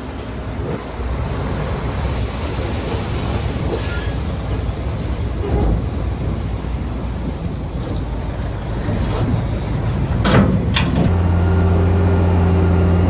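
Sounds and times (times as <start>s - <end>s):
heavy machinery engine rumble: 0.0s - 13.0s.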